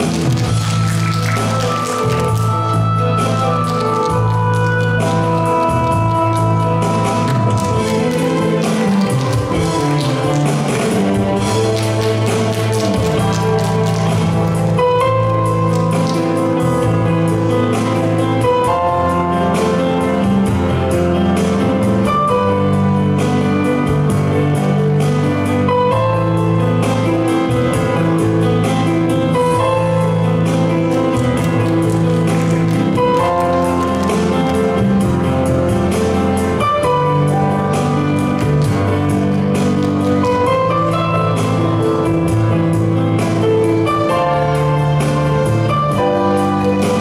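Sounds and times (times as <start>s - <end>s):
bass line: 0.0s - 47.0s
music with held notes: 0.0s - 47.0s.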